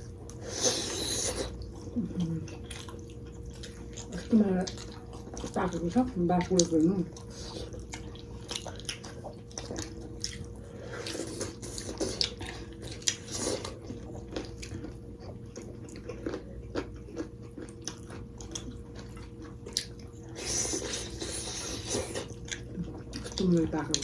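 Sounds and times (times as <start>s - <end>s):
chewing and biting food: 0.0s - 24.0s
faint steady hum: 0.0s - 24.0s.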